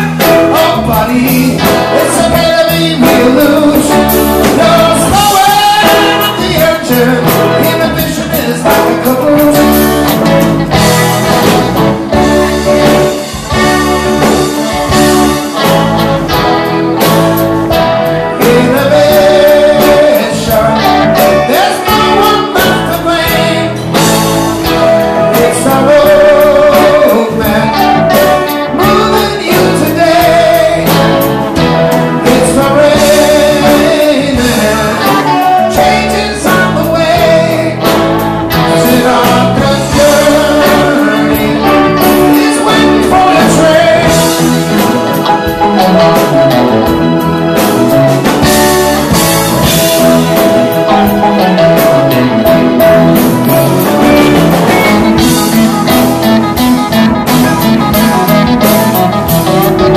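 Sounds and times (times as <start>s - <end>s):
person singing: 0.0s - 17.1s, 17.8s - 59.9s
live band playing loudly: 0.0s - 59.9s
steady drum beat: 0.0s - 59.9s.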